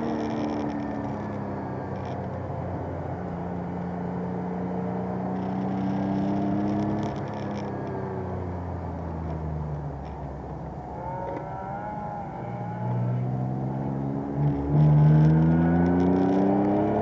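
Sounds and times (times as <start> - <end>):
car engine running under load: 0.0 - 17.0.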